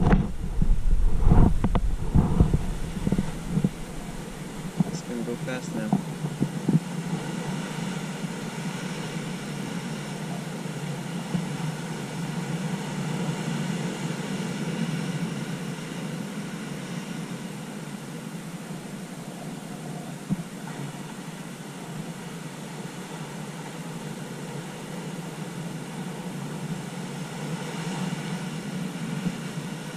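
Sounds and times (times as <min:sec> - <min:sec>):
ocean surf on rocks: 0:00.0 - 0:29.9.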